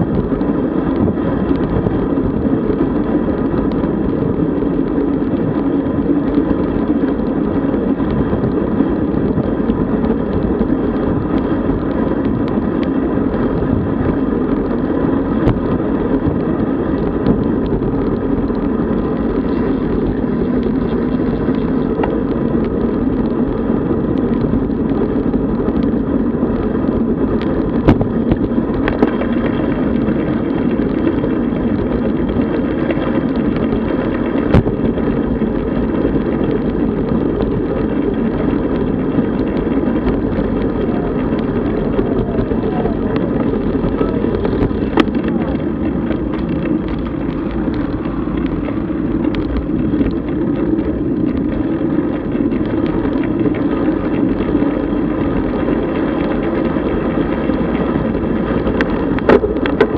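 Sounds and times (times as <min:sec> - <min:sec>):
tyre and road noise: 0:00.0 - 0:59.9
wind rushing on microphone: 0:00.0 - 0:59.9.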